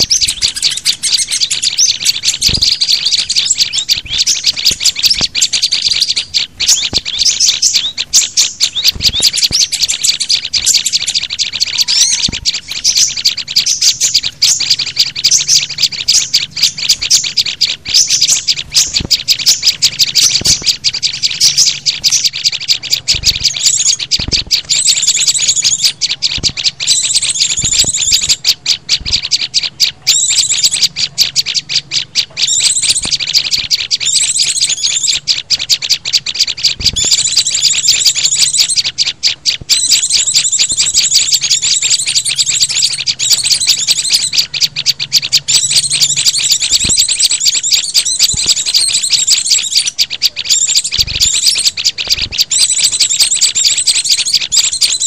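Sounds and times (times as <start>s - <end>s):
small songbirds chirping and trilling: 0.0s - 55.0s.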